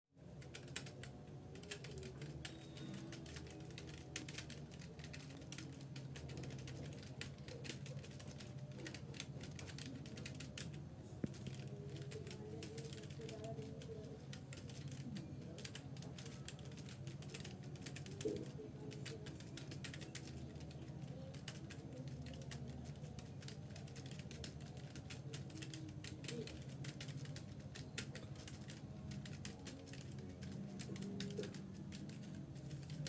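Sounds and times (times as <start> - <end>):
typing on keyboard: 0.2 - 33.0.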